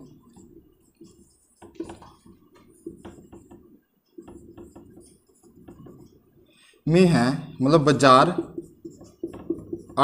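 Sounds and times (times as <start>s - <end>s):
marker scratching on whiteboard: 0.0s - 10.0s.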